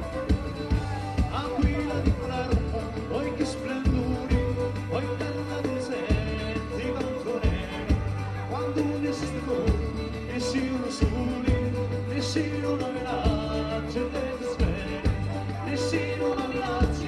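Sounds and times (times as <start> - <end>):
band playing folk-dance music: 0.0 - 17.0.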